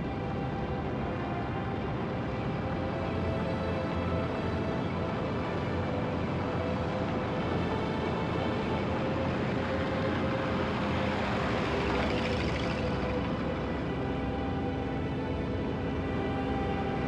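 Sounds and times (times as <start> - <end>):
truck engine rumble driving past: 2.6 - 17.0.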